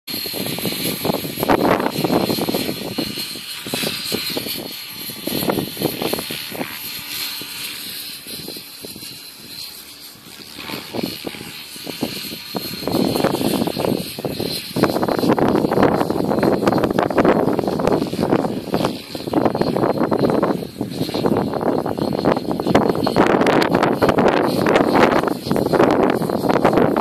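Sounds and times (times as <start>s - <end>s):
gusty rushes of noise: 0.1s - 27.0s
propeller aircraft drone: 0.1s - 27.0s.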